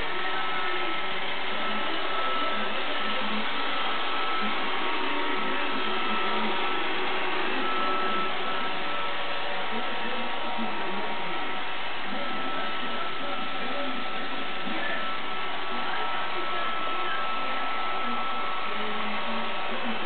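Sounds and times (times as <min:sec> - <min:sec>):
faint high-pitched whine: 0:00.0 - 0:20.0
robot vacuum whirring: 0:00.0 - 0:20.0.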